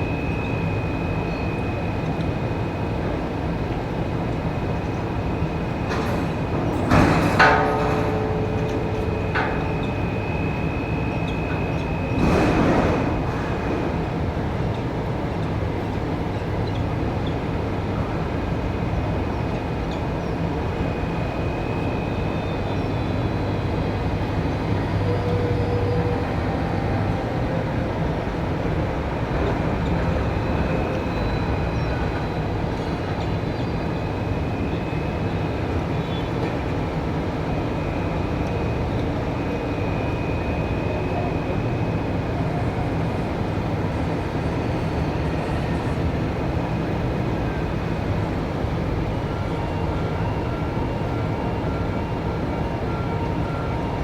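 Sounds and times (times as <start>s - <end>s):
heavy machinery low drone: 0.0s - 54.0s.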